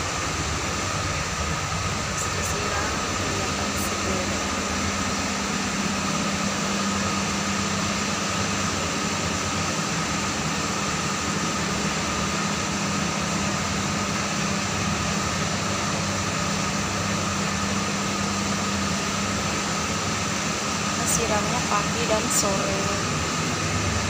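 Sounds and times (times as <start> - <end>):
machine hum with whine: 0.0 - 24.0.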